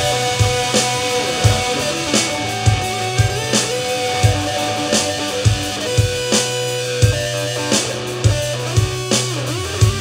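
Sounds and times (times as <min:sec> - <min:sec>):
drum kit steady beat: 0:00.0 - 0:10.0
electric guitar sustained notes: 0:00.0 - 0:10.0
low bass line: 0:00.0 - 0:10.0.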